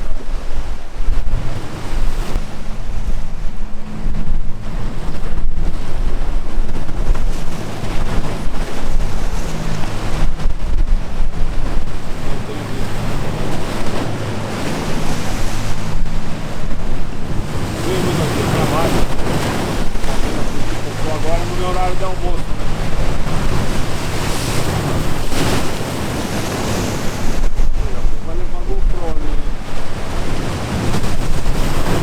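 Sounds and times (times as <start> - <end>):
low steady hum: 0.0 - 32.0
sea waves breaking: 0.0 - 32.0
wind blowing on microphone: 0.0 - 32.0.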